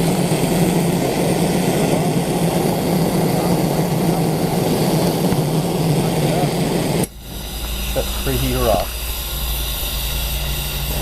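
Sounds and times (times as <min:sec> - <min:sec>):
lantern preheater burner rushing: 0:00.0 - 0:11.0.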